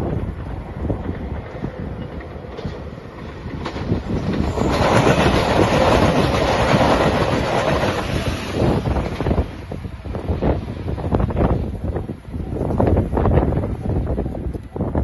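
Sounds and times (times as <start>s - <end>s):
diesel train passing: 0.0s - 15.0s
wind buffeting microphone: 0.0s - 15.0s.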